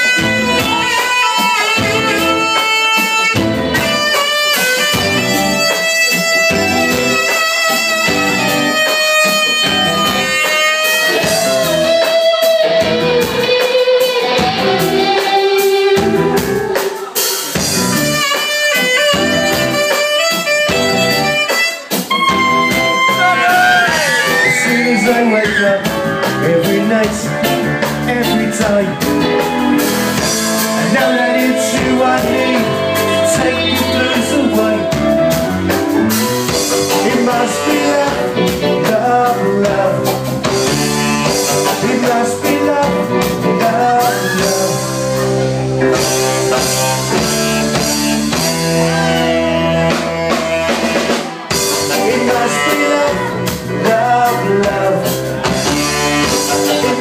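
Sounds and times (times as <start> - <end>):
lead melody with bending notes: 0.0 - 57.0
live band playing: 0.0 - 57.0.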